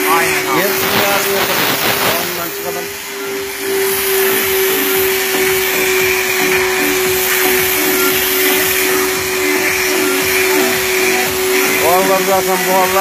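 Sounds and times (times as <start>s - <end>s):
steam hissing from nozzle: 0.0s - 13.0s
steam machine hum: 0.0s - 13.0s.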